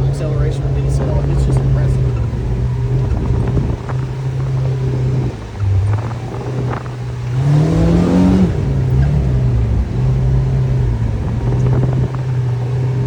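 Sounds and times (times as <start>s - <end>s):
vehicle engine accelerating: 0.0s - 13.0s.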